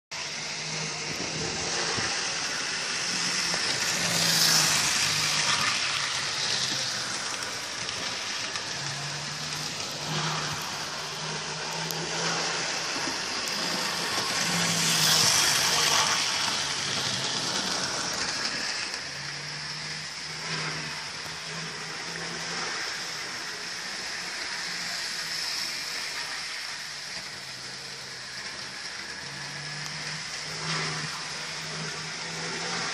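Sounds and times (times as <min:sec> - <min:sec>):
model train rattling on track: 0:00.2 - 0:32.9.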